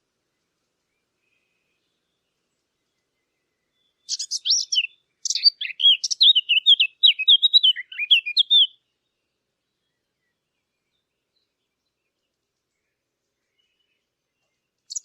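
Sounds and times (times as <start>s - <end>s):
warbler singing: 0.9s - 15.0s.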